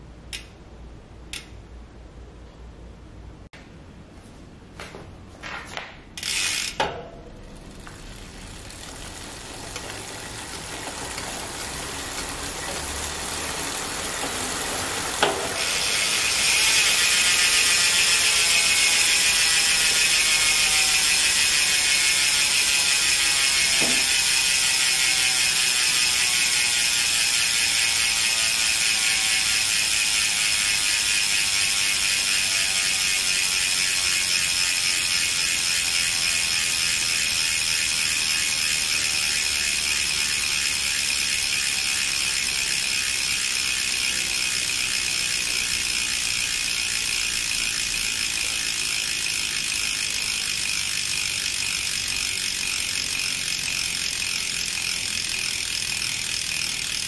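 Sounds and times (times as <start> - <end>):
bicycle hub freewheel clicking: 1.3 - 1.6, 6.2 - 57.0.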